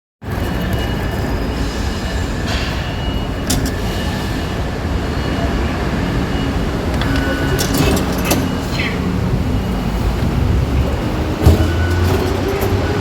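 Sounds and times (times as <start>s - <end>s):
moving train rumble: 0.2s - 13.0s.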